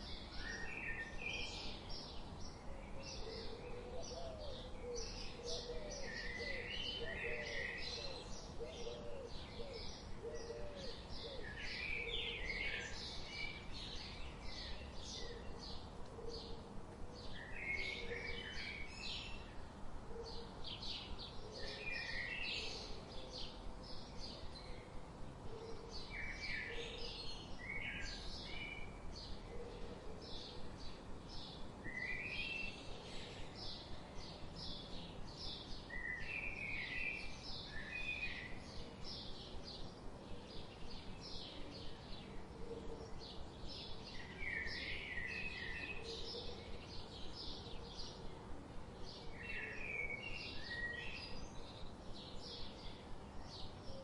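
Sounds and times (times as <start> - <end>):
faint background hiss: 0.0 - 54.0
songbirds chirping and singing: 0.0 - 54.0.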